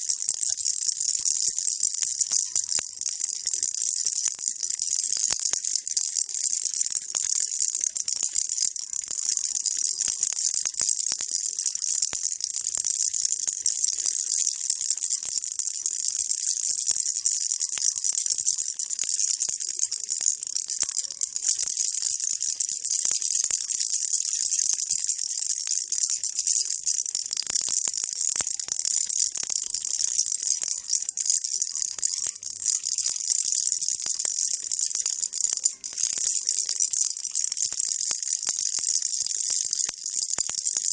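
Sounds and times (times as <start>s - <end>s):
baby rattle shaking: 0.0s - 40.9s.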